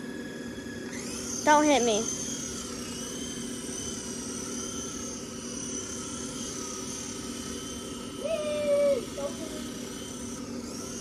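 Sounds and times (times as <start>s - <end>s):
toy helicopter rotor whirring: 0.0s - 11.0s.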